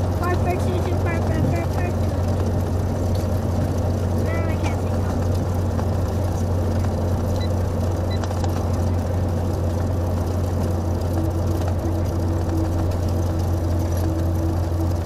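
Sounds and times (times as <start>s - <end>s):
airplane engine droning in cabin: 0.0s - 15.0s.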